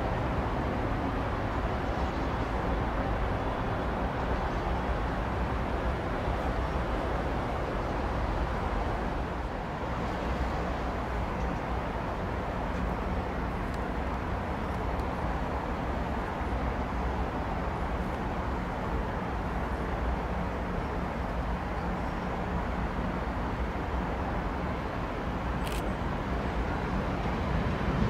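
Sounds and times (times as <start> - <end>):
railway yard rumble and hum: 0.0 - 28.0.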